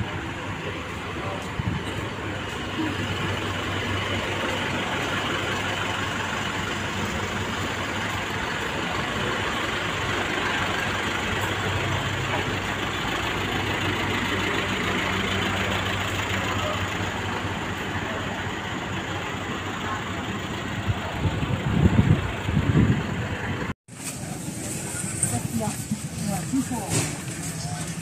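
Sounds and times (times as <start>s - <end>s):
van engines idling: 0.0s - 28.0s.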